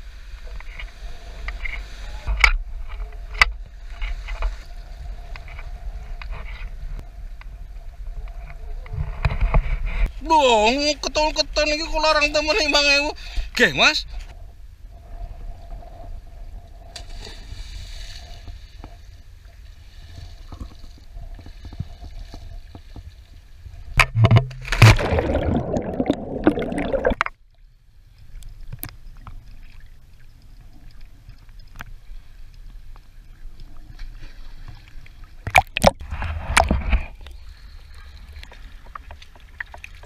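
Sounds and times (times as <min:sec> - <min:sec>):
water splashing and sloshing: 0:00.1 - 0:07.6, 0:15.2 - 0:40.0.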